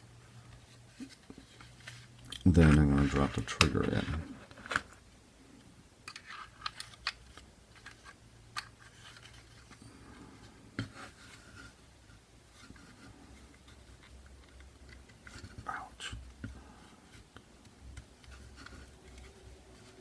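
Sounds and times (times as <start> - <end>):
faint rustling handling: 0.2 - 5.6, 6.2 - 20.0.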